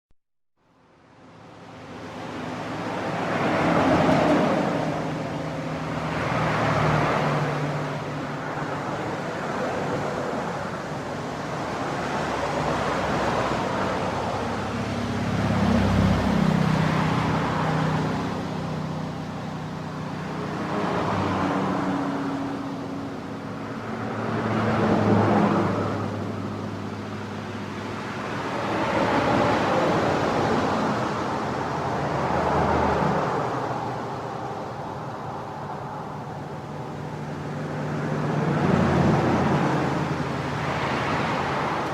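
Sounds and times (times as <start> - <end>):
cars passing on road: 0.6 - 41.9.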